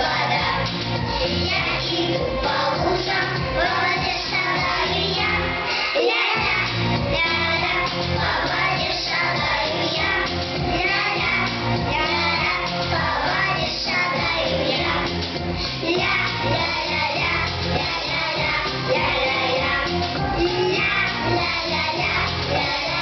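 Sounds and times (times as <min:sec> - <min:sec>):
children singing a pop song: 0:00.0 - 0:23.0
instrumental backing track: 0:00.0 - 0:23.0.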